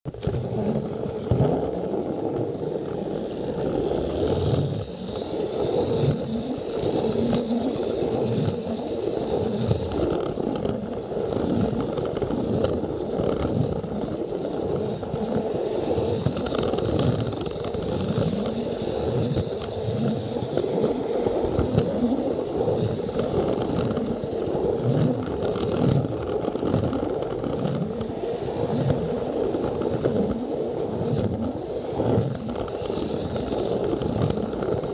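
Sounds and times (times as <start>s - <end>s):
wheels clattering over track: 0.1s - 30.3s, 31.0s - 34.9s
toy train motor whirring: 2.6s - 34.9s.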